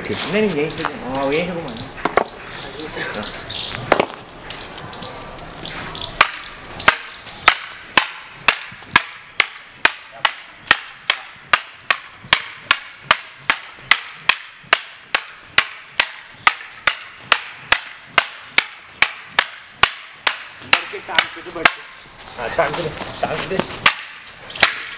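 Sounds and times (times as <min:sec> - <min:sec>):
bamboo staves clacking together: 0:03.7 - 0:24.9.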